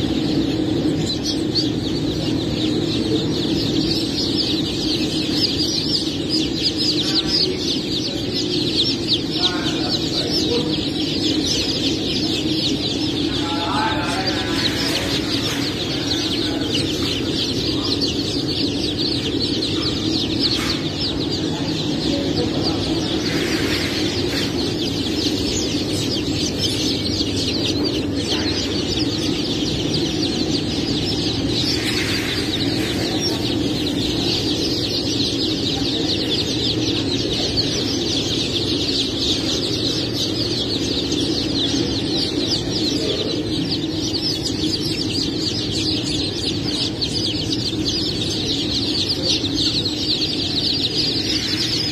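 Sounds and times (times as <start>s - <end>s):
chicks peeping: 0.0s - 51.9s
steady low hum: 0.0s - 51.9s.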